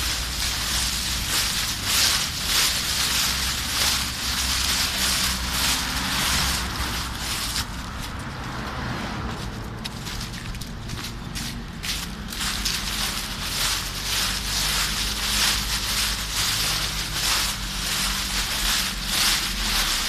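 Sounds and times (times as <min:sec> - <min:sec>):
footsteps crunching dry leaves: 0:00.0 - 0:20.0.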